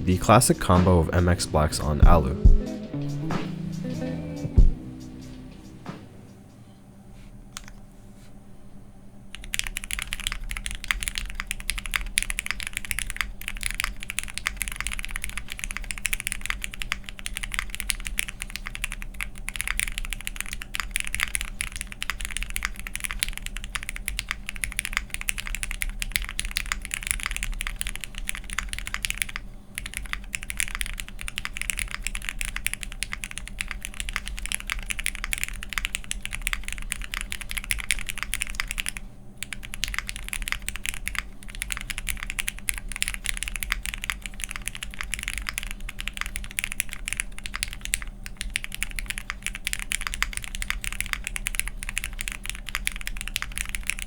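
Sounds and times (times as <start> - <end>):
typing on mechanical keyboard: 9.3 - 54.0.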